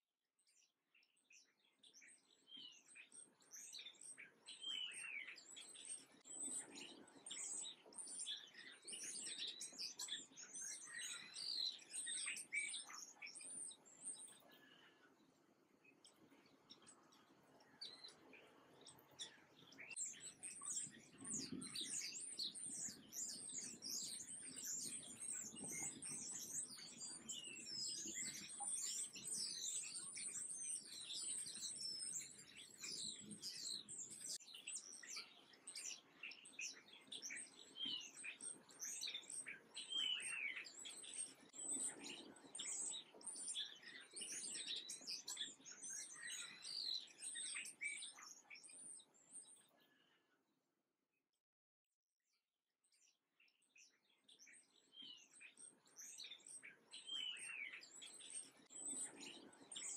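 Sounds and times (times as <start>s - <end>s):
songbirds chirping: 0.0s - 50.4s, 52.9s - 59.9s.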